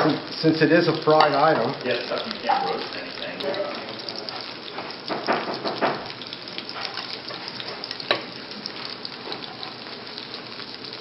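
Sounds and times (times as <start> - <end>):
fritters sizzling in hot oil: 0.0 - 11.0.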